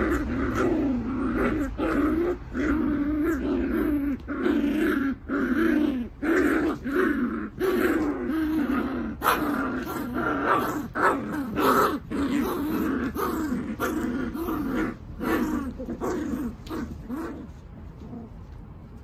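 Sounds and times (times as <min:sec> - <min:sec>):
puppies growling: 0:00.0 - 0:19.0.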